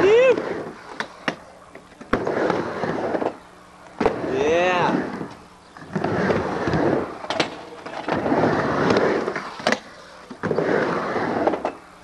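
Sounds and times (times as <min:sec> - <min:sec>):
skateboard wheels rolling: 0:00.0 - 0:12.0.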